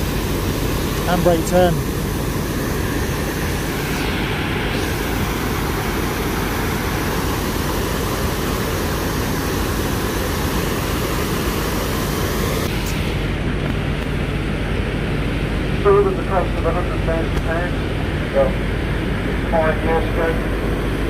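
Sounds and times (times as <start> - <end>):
boat engine hum: 0.0 - 21.0.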